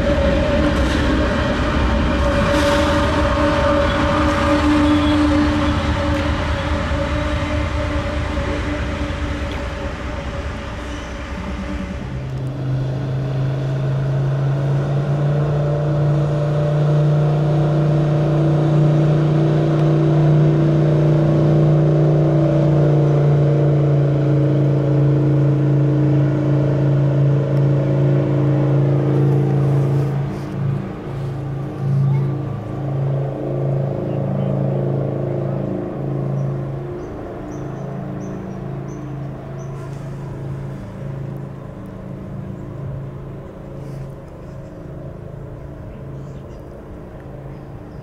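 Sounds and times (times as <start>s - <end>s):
diesel locomotive engine droning: 0.0s - 48.0s
freight train passing: 0.0s - 48.0s.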